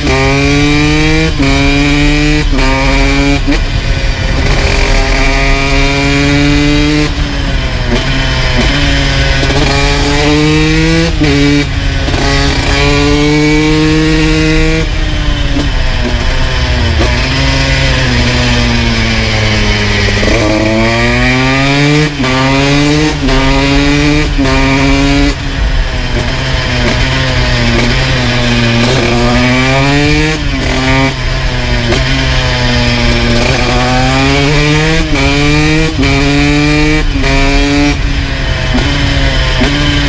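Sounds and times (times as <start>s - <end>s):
two-stroke motorcycle engine revving: 0.0s - 40.0s.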